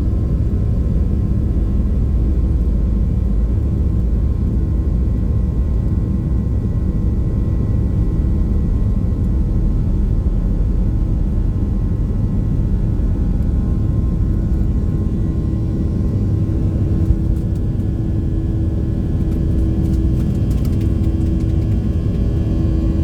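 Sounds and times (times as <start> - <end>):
jet engine rumble: 0.0 - 23.0.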